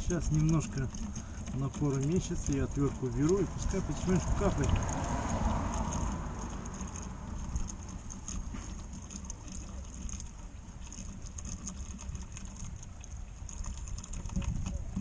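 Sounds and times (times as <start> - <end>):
oil pouring down plastic chute: 0.0 - 15.0.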